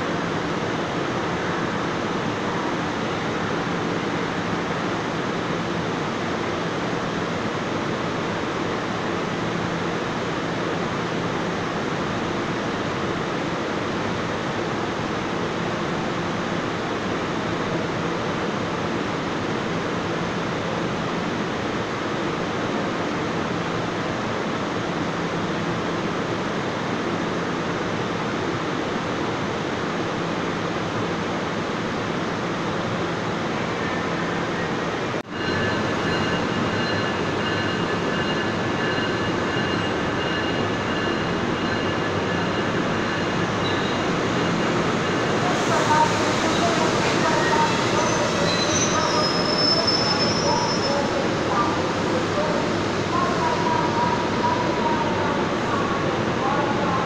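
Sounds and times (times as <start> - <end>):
idling train rushing noise: 0.0 - 57.0.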